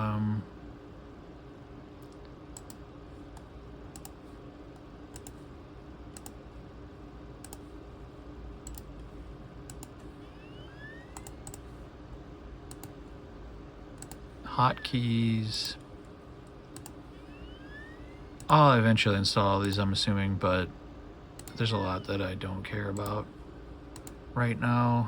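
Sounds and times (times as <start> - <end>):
low hum: 0.0 - 24.6.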